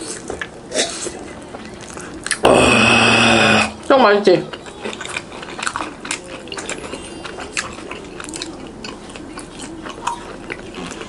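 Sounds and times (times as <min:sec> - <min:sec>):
chewing crunchy food: 0:00.0 - 0:03.2, 0:03.8 - 0:11.0.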